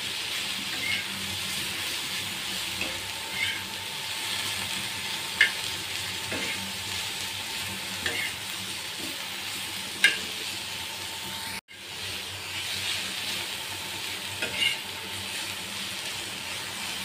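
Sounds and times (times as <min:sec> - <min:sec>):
vegetables sizzling in a pan: 0:00.0 - 0:17.0
metal spatula scraping a pan: 0:00.1 - 0:07.0, 0:07.6 - 0:10.6, 0:11.4 - 0:17.0.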